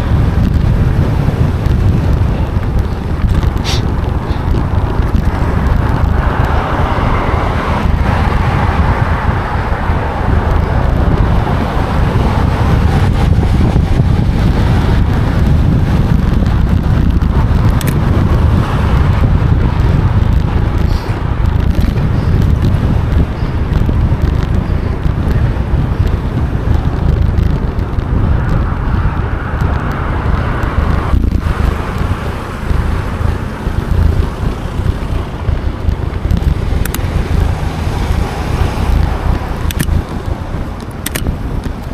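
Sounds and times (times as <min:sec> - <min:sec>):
strong wind buffeting microphone: 0:00.0 - 0:41.9.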